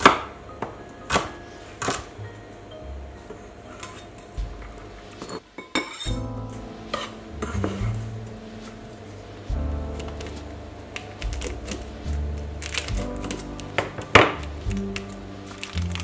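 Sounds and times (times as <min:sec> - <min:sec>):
jazz music: 0:00.0 - 0:05.4, 0:06.0 - 0:16.0.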